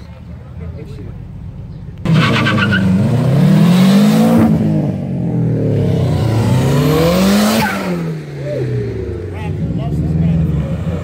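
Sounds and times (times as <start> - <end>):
car engine revving past: 2.1 - 11.0.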